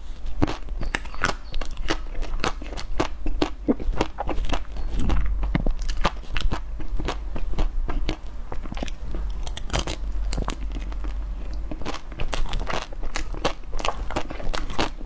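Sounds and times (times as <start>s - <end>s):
crunchy biting and chewing: 0.0s - 15.0s.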